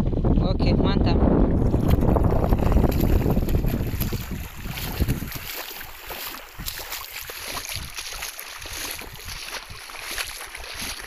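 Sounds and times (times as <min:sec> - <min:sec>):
wind buffeting microphone: 0:00.0 - 0:11.0
footsteps splashing through water: 0:01.6 - 0:11.0.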